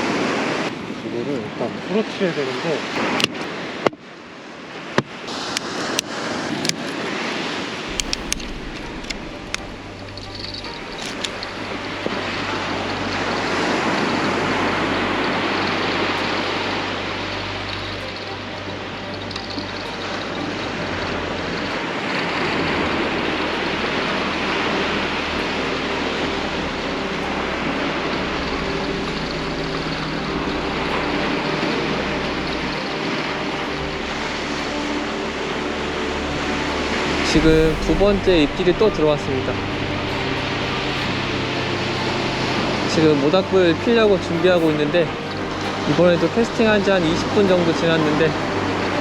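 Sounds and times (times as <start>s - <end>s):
wind: 0.0s - 49.0s
low hum: 7.9s - 49.0s.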